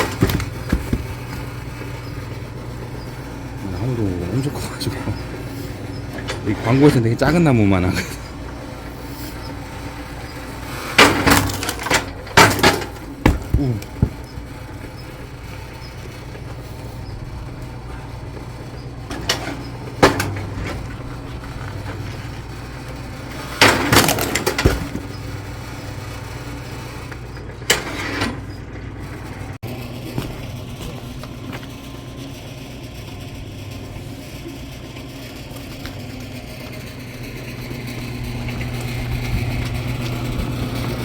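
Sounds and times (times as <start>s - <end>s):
log splitter engine running: 0.0s - 41.0s.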